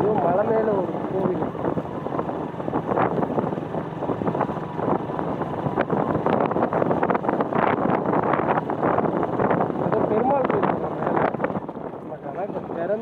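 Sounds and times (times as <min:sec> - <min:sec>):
motorcycle engine: 0:00.0 - 0:13.0
road noise: 0:00.0 - 0:13.0
wind buffeting microphone: 0:00.0 - 0:13.0.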